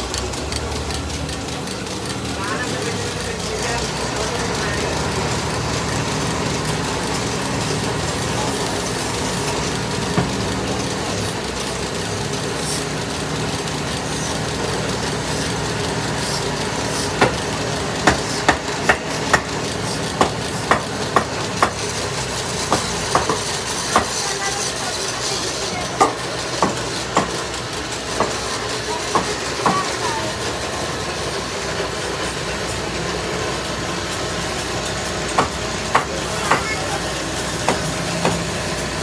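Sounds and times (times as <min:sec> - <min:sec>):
wood lathe running: 0:00.0 - 0:39.0.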